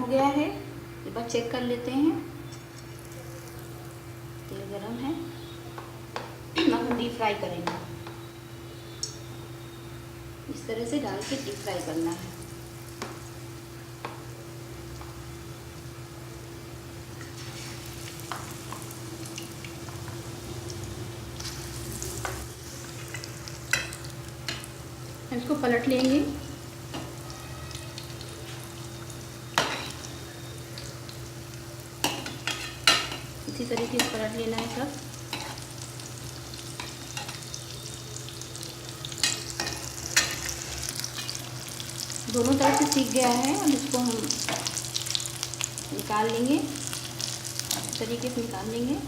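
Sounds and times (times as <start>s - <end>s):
deep-frying sizzle: 0.0s - 49.0s.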